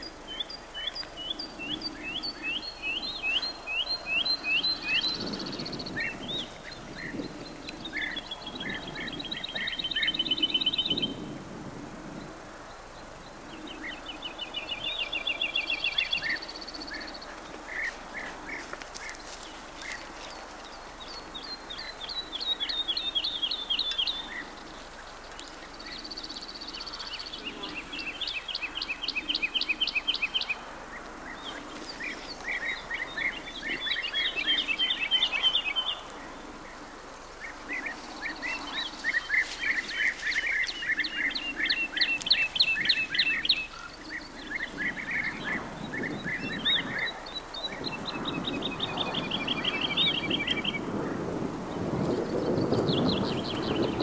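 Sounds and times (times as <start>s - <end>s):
songbirds trilling: 0.0s - 54.0s.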